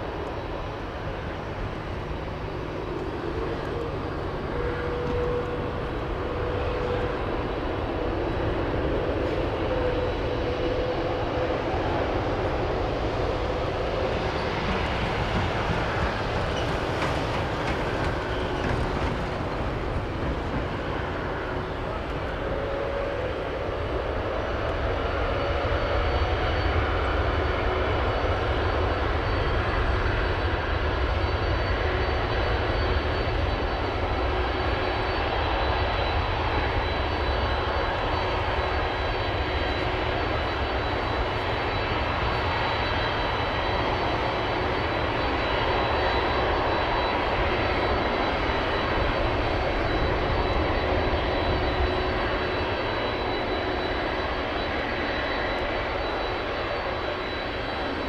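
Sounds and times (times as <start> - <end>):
high turbine whine: 0.0 - 58.0
jet engine rumble: 0.0 - 58.0.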